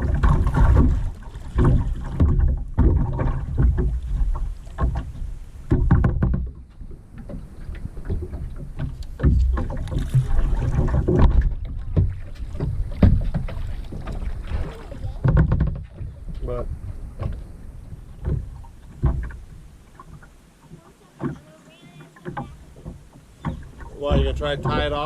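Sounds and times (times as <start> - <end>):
paddle splashing in water: 0.0 - 25.0.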